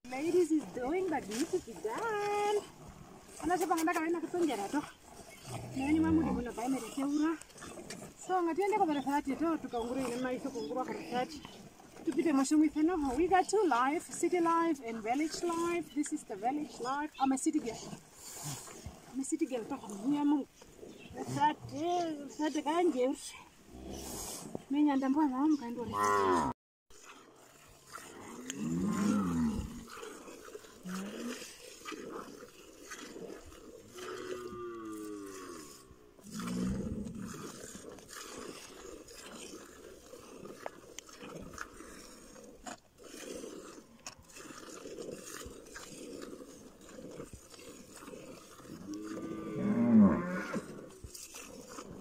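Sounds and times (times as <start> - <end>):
cattle lowing: 0.1 - 52.0.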